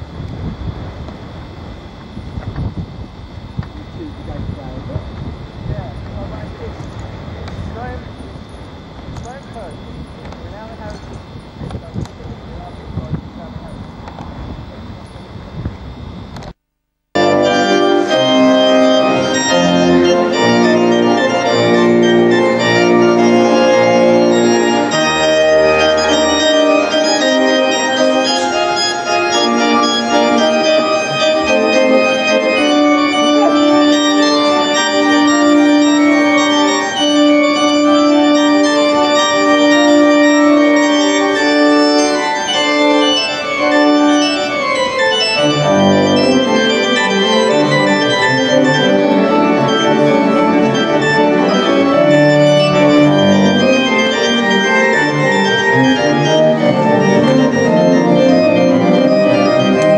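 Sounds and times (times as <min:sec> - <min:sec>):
organ playing slow chords: 0:00.0 - 0:16.4, 0:17.2 - 0:59.9.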